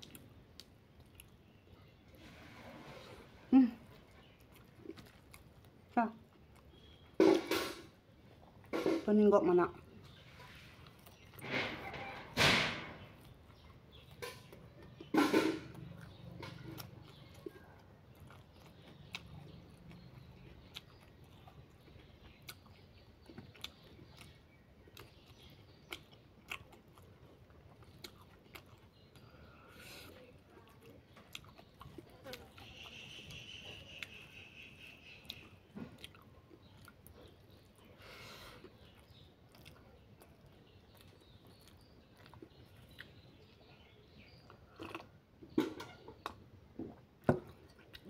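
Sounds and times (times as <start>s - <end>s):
person chewing: 0.0s - 8.9s, 10.0s - 12.2s, 13.0s - 34.3s, 34.9s - 48.0s.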